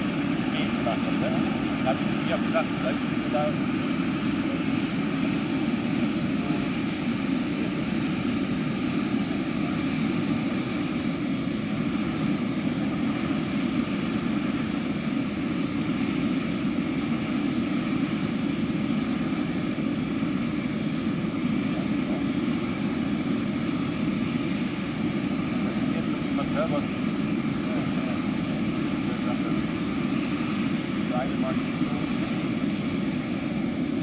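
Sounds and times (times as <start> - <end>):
helicopter rotor turning: 0.0 - 34.0
model gas turbine high whine: 0.0 - 34.0.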